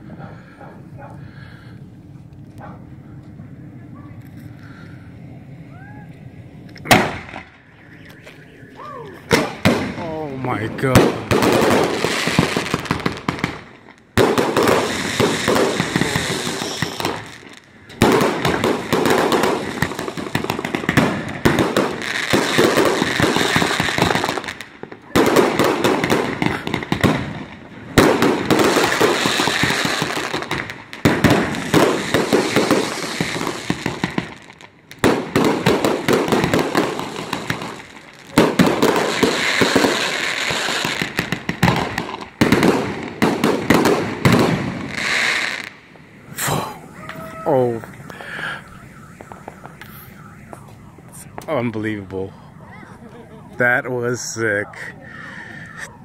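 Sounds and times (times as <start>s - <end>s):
fireworks crackling and popping: 5.6s - 56.0s
fireworks launching and bursting: 6.7s - 56.0s.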